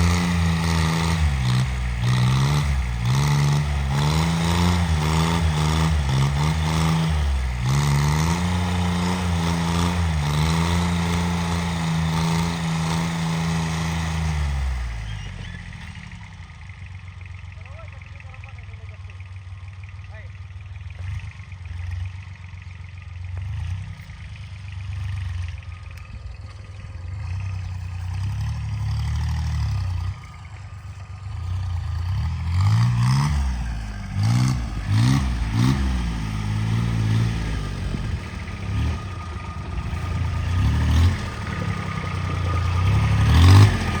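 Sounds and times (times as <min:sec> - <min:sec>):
clatter: 0:00.0 - 0:44.0
tractor engine revving: 0:00.0 - 0:44.0.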